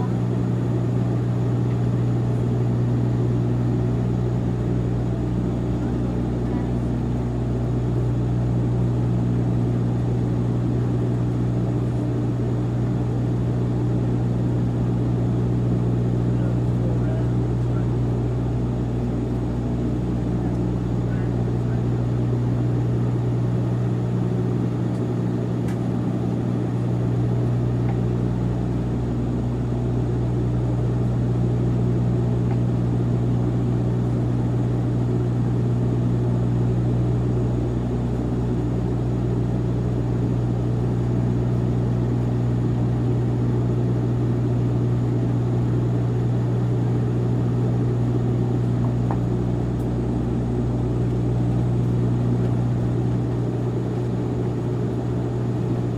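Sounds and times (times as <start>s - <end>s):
propeller plane engine: 0.0s - 55.9s.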